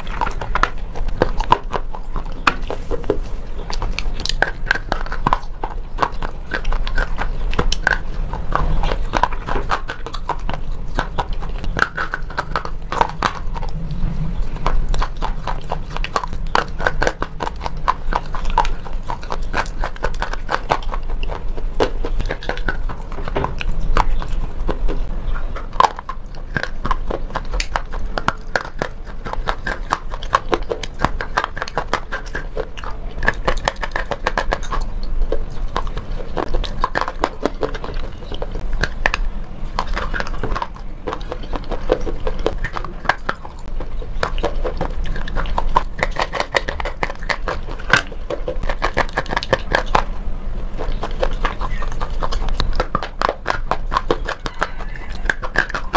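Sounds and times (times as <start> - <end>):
chalky pencils crunching in mouth: 0.0 - 55.9.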